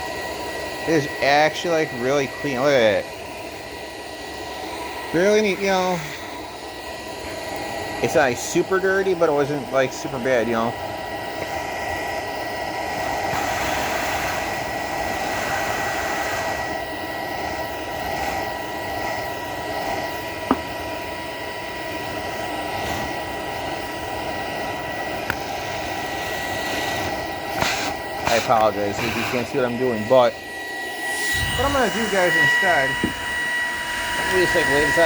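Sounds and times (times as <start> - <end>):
vacuum cleaner motor whining: 0.0 - 35.0.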